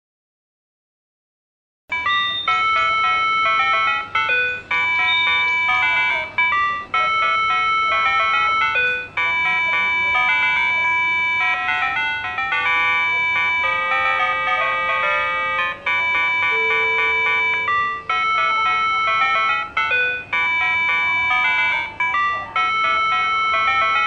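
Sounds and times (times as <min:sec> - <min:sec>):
electronic chime melody: 0:01.9 - 0:24.0.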